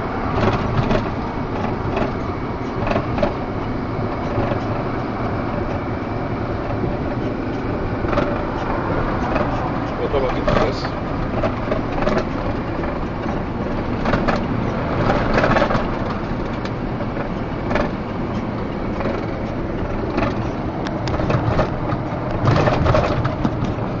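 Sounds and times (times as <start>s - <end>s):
truck engine and road noise: 0.0s - 24.0s
knocks and rattles: 0.3s - 3.4s, 6.6s - 18.0s, 18.6s - 24.0s.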